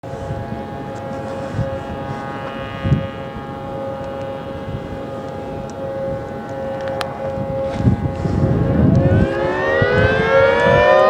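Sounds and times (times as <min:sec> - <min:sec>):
siren sounding steady chord: 0:00.0 - 0:11.0
wind gusts on microphone: 0:00.0 - 0:11.0.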